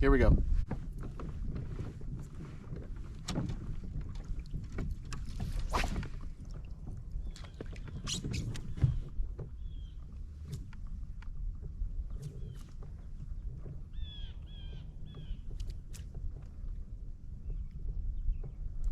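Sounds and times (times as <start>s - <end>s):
low wind rumble: 0.0s - 18.9s
paddle knocking against kayak hull: 0.7s - 18.8s.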